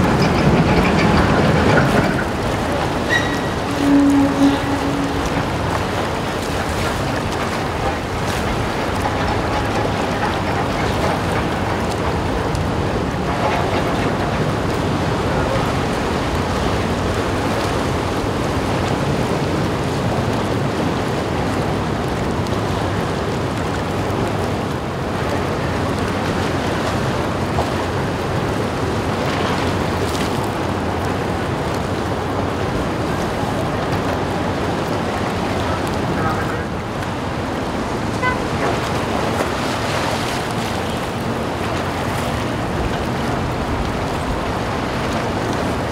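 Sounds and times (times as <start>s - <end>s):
low ship rumble: 0.0s - 45.9s
propeller wash churning and splashing: 0.0s - 45.9s.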